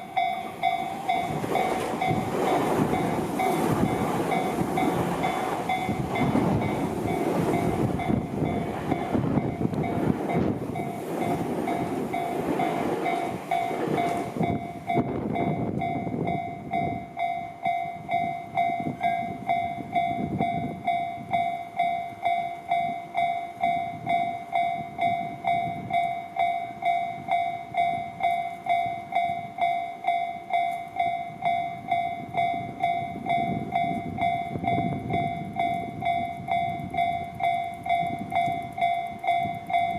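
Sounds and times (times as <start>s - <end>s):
crossing warning bell ringing: 0.0s - 39.9s
train rumble and wheel noise: 0.0s - 39.9s.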